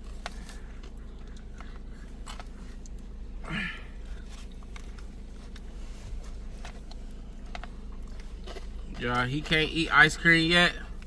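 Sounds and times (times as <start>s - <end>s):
low rumble inside car cabin: 0.0s - 11.0s.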